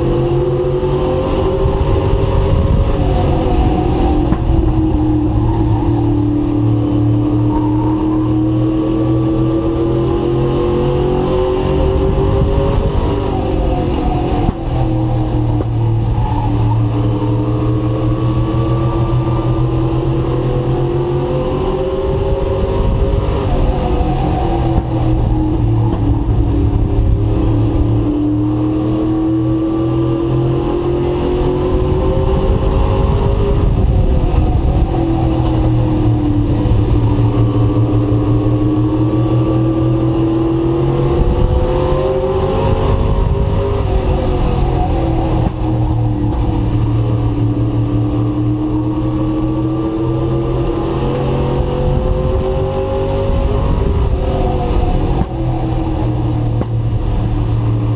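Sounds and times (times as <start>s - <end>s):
race truck engine revving: 0.0s - 57.9s.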